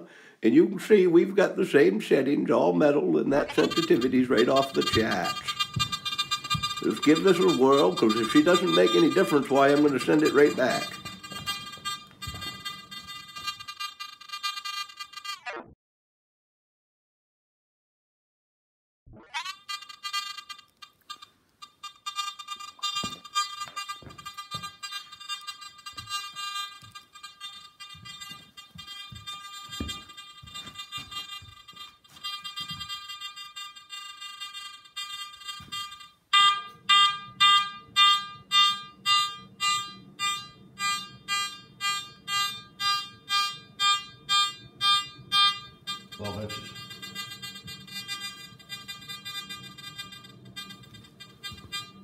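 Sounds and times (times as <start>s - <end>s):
metal detector steady tone: 3.3s - 15.4s, 19.4s - 52.0s
metal detector beeps: 3.3s - 15.6s, 19.4s - 52.0s.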